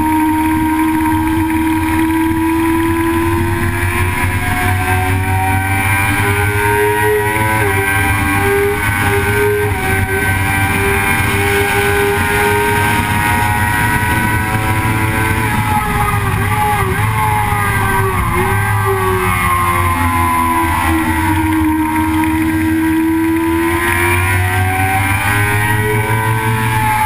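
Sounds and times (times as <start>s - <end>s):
vehicle engine running hard: 0.0s - 27.0s
wind and road noise: 0.0s - 27.0s.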